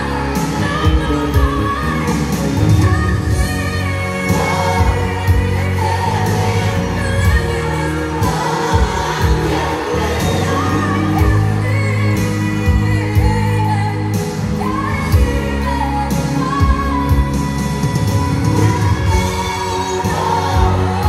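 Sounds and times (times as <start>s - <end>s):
song over loudspeakers: 0.0s - 21.0s.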